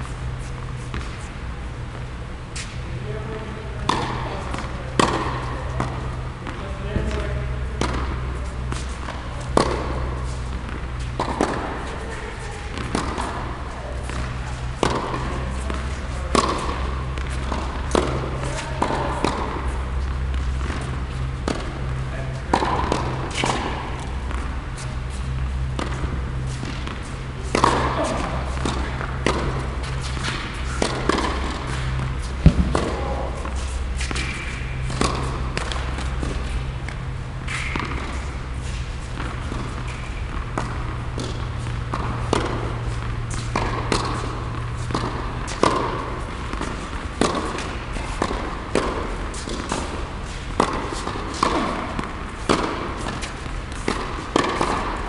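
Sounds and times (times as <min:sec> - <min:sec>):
rackets striking tennis ball: 0:00.0 - 0:55.0
steady low hum: 0:00.0 - 0:55.0
tennis ball bouncing: 0:00.0 - 0:55.0.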